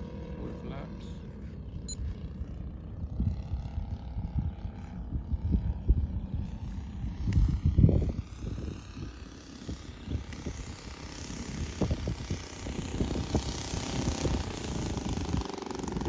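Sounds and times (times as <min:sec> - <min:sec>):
model aircraft engine in flight: 0:00.0 - 0:16.0
wind buffeting microphone: 0:01.6 - 0:16.0.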